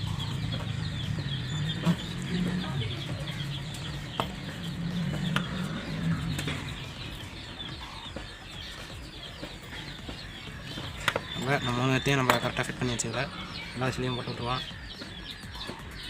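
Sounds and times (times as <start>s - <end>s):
birds chirping: 0.0s - 16.0s
chickens clucking: 0.0s - 16.0s.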